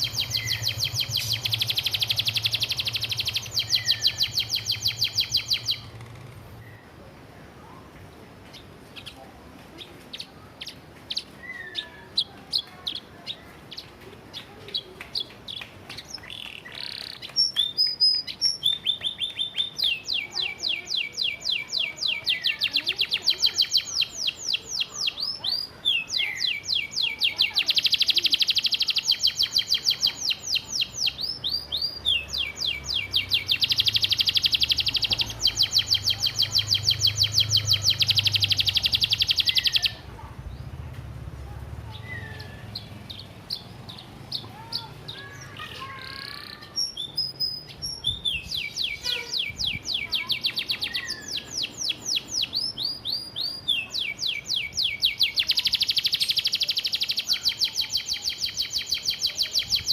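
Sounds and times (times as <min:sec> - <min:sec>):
canary singing: 0:00.0 - 0:06.9, 0:09.8 - 0:40.7, 0:41.7 - 0:59.9.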